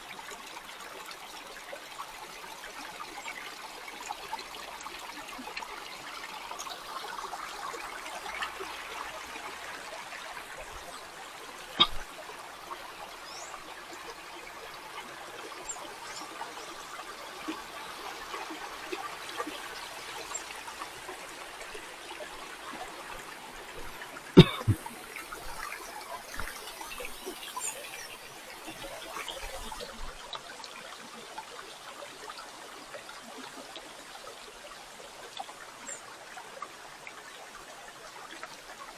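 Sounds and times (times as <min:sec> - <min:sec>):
water flowing over rocks: 0:00.0 - 0:38.9.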